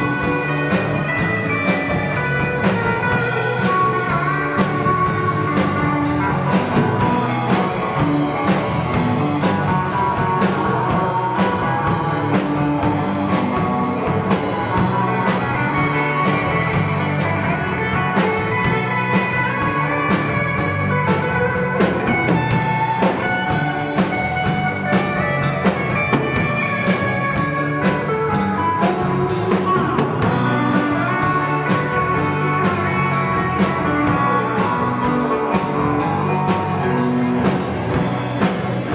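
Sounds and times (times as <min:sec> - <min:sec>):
drum kit beat: 0:00.0 - 0:38.9
electric bass: 0:00.0 - 0:38.9
electric guitars: 0:00.0 - 0:38.9.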